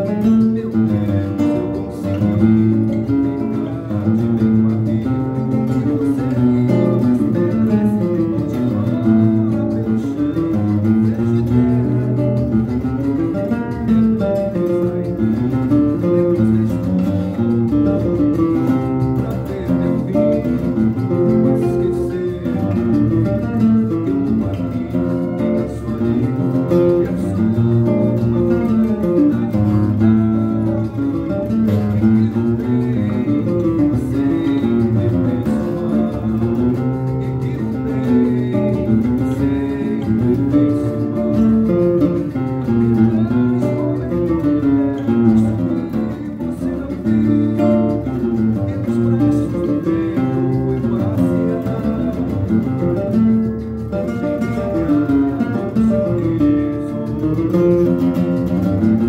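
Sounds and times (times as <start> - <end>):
nylon-string guitar playing: 0.0 - 59.0.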